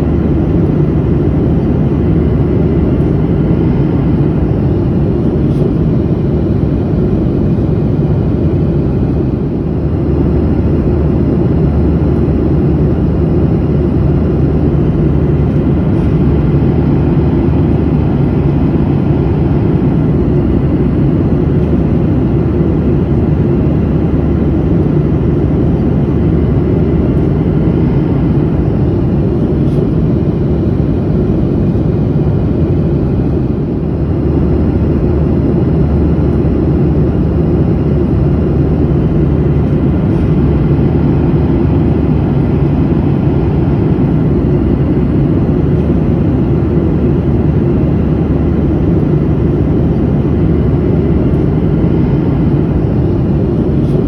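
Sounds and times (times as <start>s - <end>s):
jet engines and airflow rushing: 0.0s - 54.0s.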